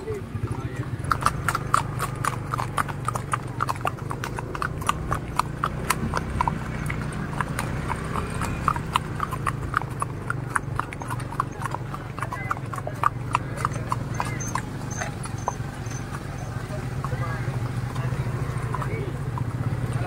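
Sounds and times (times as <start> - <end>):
horse hoofbeats on concrete: 0.0 - 20.0.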